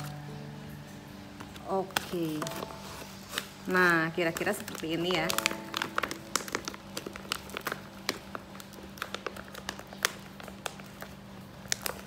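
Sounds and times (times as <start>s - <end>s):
plastic pouch crinkling: 1.4s - 12.0s.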